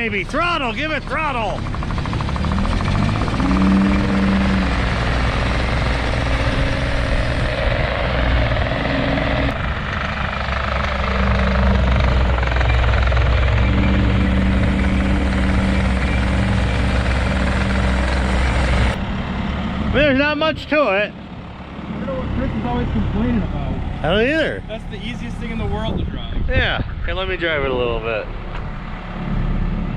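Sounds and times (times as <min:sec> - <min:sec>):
diesel engine at high throttle: 0:00.0 - 0:29.9.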